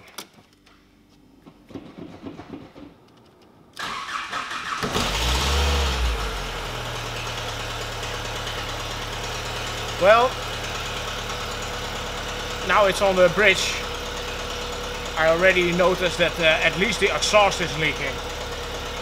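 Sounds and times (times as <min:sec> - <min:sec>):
car engine starting and idling: 0:00.5 - 0:19.0.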